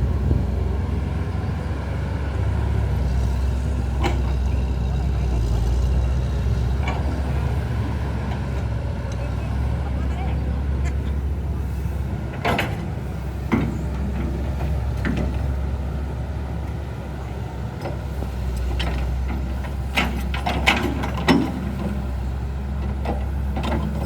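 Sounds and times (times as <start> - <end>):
low engine-like rumble: 0.0 - 24.0.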